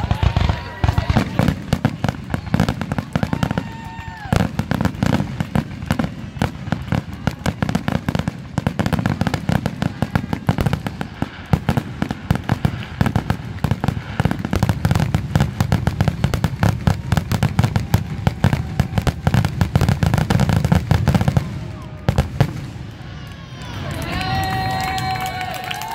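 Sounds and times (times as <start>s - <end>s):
fireworks bursting and crackling: 0.0s - 25.9s.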